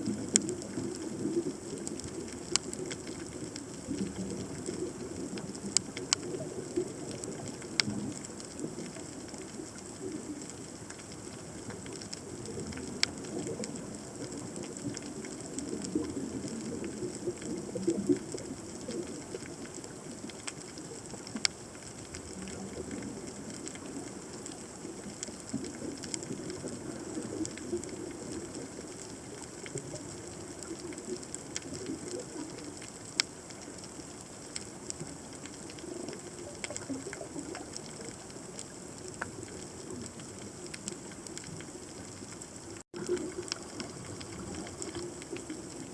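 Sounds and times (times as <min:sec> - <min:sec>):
low burbling water: 0:00.0 - 0:45.9.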